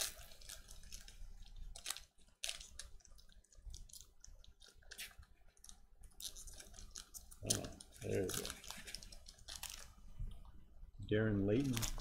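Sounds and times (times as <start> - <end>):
wrapper rustling and crackling: 0.0 - 10.2, 11.5 - 12.0.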